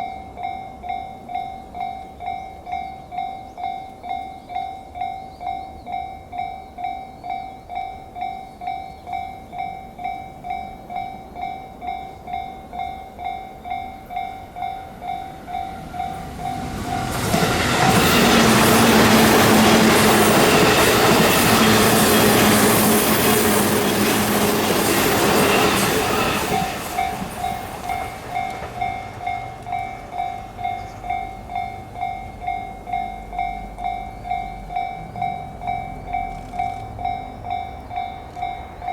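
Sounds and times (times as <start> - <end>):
electric train passing at speed: 0.0 - 38.9
level crossing alarm bell ringing: 0.0 - 38.9.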